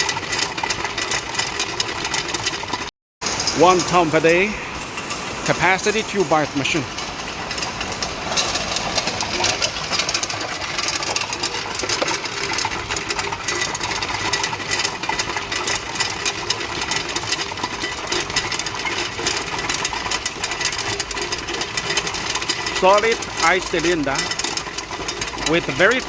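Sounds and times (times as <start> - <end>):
ice machine running: 0.0 - 26.0
rapid clicking clatter: 0.0 - 26.0.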